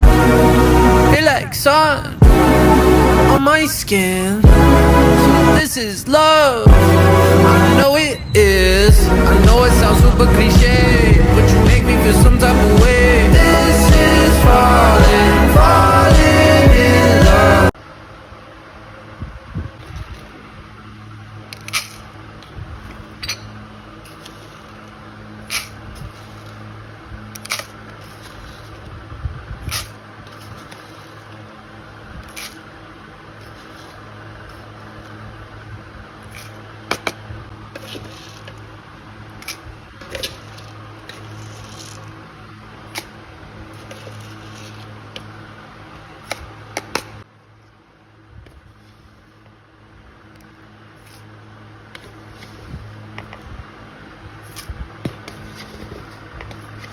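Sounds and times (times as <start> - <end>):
steady low hum: 6.7 - 56.9.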